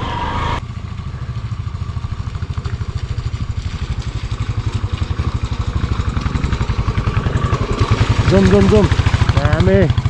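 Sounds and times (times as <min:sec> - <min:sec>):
motorcycle engine running: 0:00.6 - 0:10.0.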